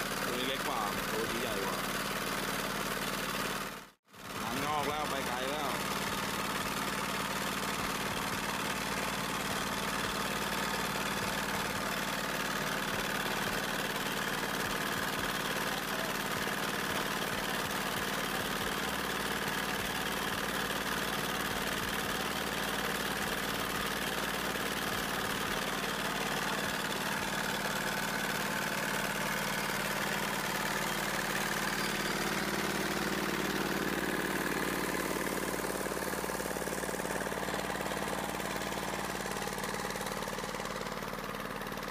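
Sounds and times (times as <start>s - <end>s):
engine droning steadily: 0.0s - 41.9s.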